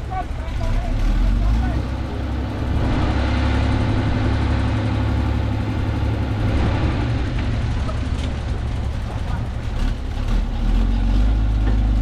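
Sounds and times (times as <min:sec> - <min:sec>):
bulldozer diesel engine rumbling: 0:00.0 - 0:12.0.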